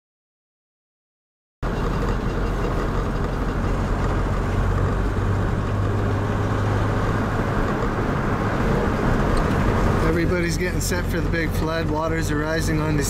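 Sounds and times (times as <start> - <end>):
car engine and road noise: 1.6 - 13.0.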